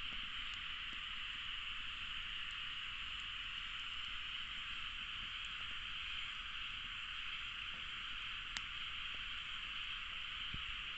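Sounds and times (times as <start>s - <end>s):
sharp crack of burning wood: 0.0s - 10.9s
wood fire hissing and crackling: 0.0s - 10.9s.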